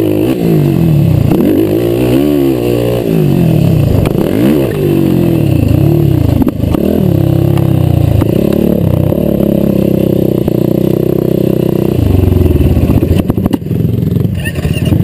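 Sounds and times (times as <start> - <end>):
quad engine revving: 0.0 - 15.0.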